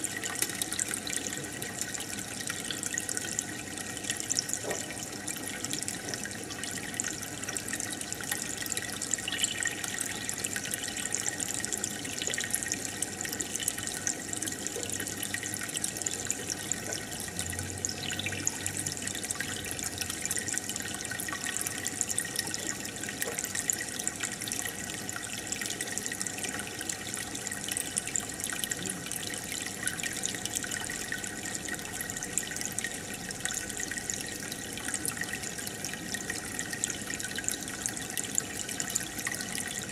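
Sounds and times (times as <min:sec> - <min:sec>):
aquarium filter bubbling water: 0:00.0 - 0:39.9.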